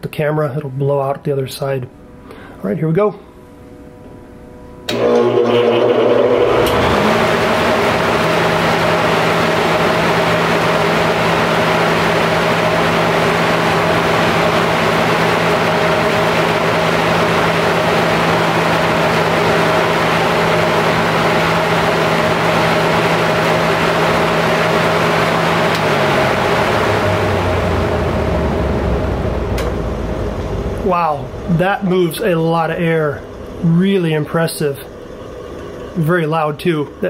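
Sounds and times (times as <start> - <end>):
electric motor hum: 3.4 - 37.0
industrial fan air rushing: 6.4 - 37.0.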